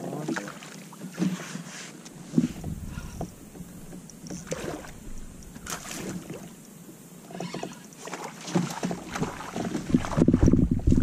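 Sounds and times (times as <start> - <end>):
water lapping against kayak hull: 0.0 - 11.0.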